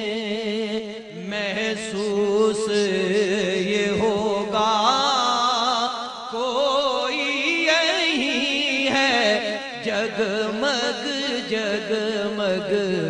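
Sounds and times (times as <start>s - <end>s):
man singing melismatic notes: 0.0s - 13.0s.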